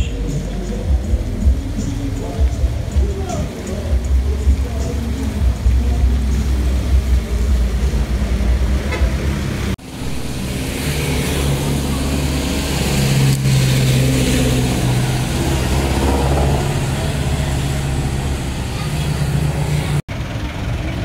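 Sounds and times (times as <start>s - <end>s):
engine running close by: 0.0s - 21.0s
street traffic: 0.0s - 21.0s.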